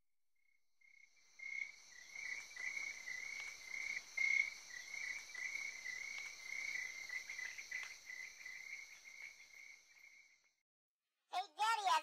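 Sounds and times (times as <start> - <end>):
insects chirping: 0.8 - 10.6.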